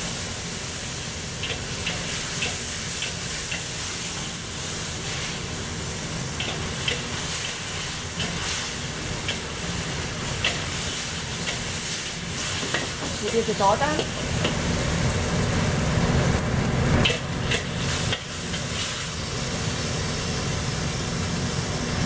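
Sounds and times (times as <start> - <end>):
stir-fry sizzling in wok: 0.0 - 22.0.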